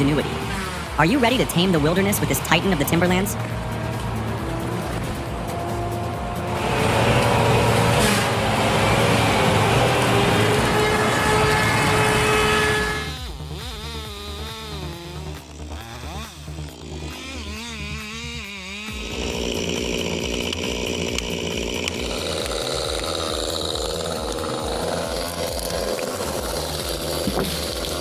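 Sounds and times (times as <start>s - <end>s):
background music: 0.0s - 28.0s
chainsaw running: 0.0s - 28.0s.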